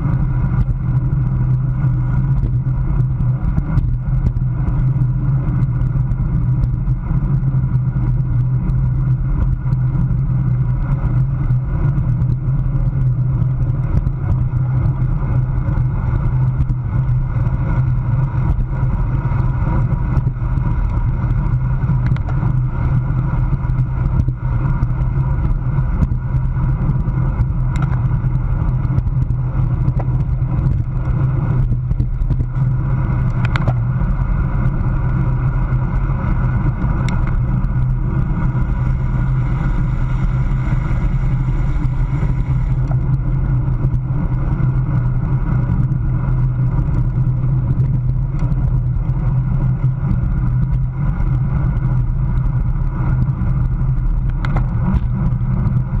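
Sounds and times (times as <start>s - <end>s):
bike tyres on road: 0.0s - 56.0s
wind rush on microphone: 0.0s - 56.0s.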